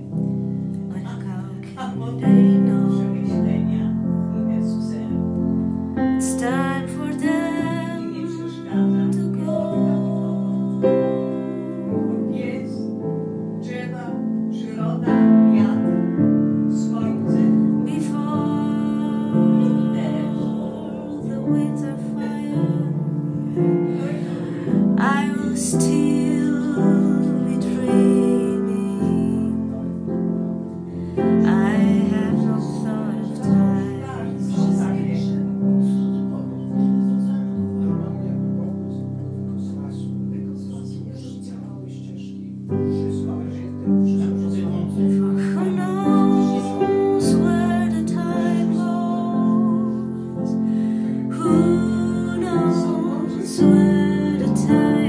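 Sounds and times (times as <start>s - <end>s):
woman singing a slow ballad: 0.0s - 35.7s, 45.0s - 55.0s
piano playing slow chords: 0.0s - 55.0s.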